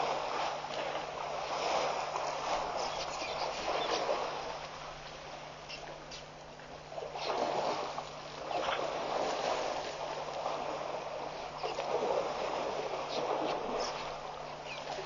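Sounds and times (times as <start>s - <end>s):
low electrical hum: 0.0s - 15.0s
rushing water: 0.0s - 15.0s.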